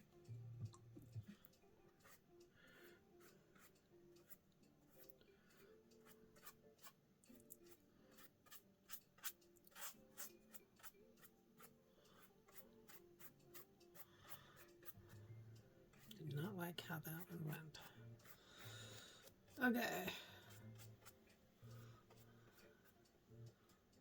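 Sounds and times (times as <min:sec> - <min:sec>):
faint background music: 0:00.0 - 0:24.0
paintbrush strokes on paper: 0:01.9 - 0:07.0, 0:07.6 - 0:15.3, 0:15.9 - 0:23.0.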